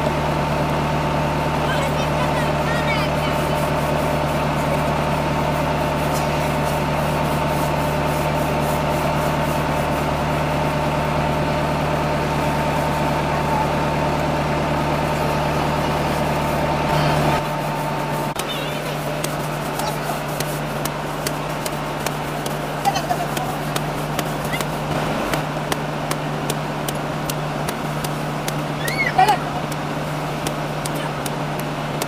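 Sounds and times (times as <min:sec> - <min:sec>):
water pump humming: 0:00.0 - 0:32.0.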